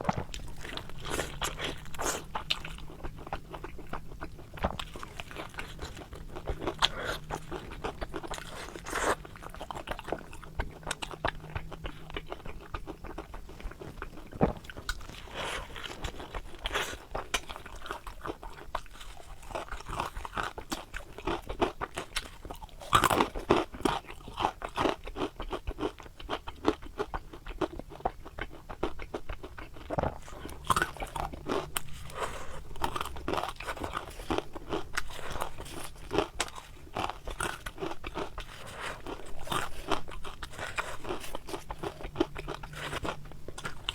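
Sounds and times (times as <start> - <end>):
crunchy chewing of fried food: 0.0 - 43.9.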